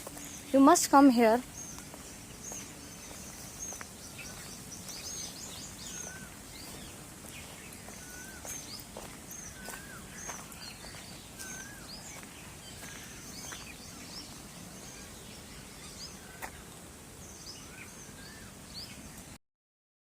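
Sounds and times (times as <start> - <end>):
background hiss: 0.0 - 19.4
birds chirping: 0.0 - 19.4.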